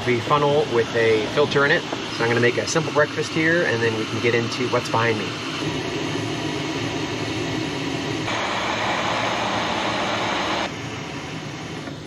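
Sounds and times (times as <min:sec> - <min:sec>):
gas burner running: 0:00.0 - 0:12.0.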